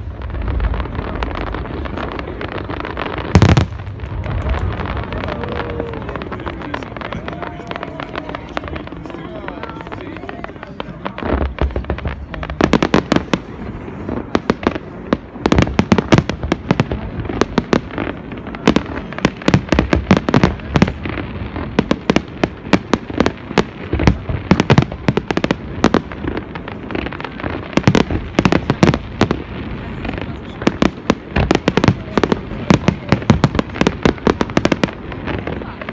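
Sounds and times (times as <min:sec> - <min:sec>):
fireworks bangs and crackling: 0:00.0 - 0:35.9
loud fireworks booms: 0:00.0 - 0:35.9.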